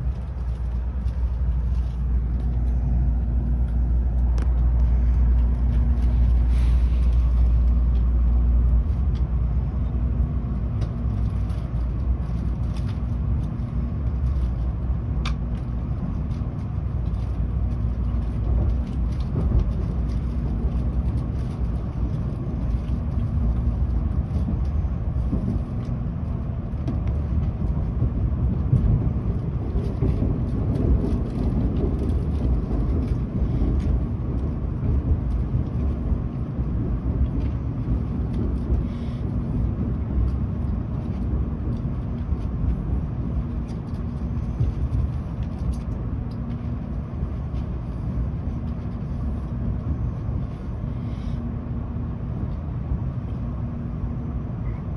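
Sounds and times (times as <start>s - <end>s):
train running rumble inside car: 0.0s - 54.9s.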